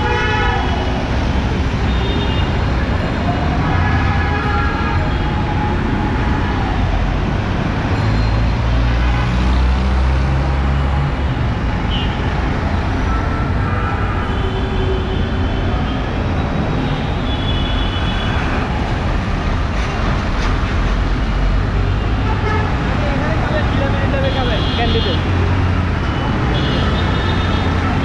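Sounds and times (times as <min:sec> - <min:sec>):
auto-rickshaw engines: 0:00.0 - 0:28.0.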